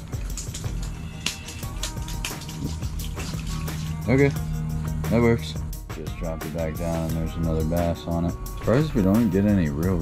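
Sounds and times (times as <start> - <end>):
background music with ticking beat: 0.0 - 10.0.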